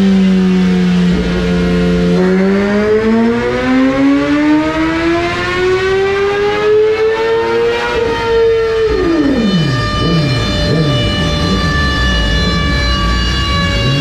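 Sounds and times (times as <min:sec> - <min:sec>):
motorcycle engine revving at full throttle: 0:00.0 - 0:14.0.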